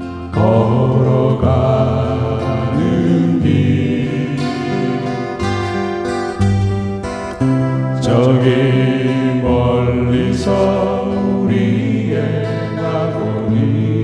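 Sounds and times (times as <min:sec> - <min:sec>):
strummed acoustic guitar: 0:00.0 - 0:14.0
voices singing pop song: 0:00.0 - 0:14.0.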